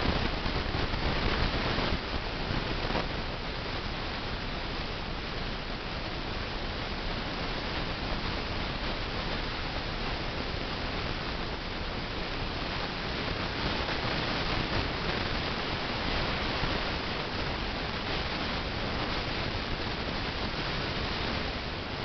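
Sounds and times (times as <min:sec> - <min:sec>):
computer cooling fans whooshing: 0:00.0 - 0:22.0.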